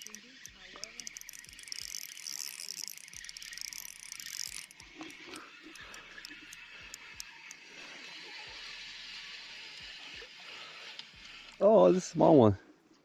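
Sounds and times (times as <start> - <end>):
fishing reel ticking: 0.0 - 12.4.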